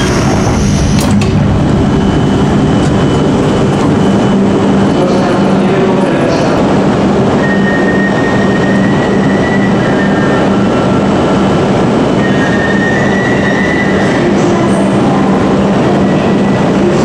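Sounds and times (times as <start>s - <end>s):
faint high whine: 0.0s - 17.0s
train equipment humming: 0.0s - 17.0s.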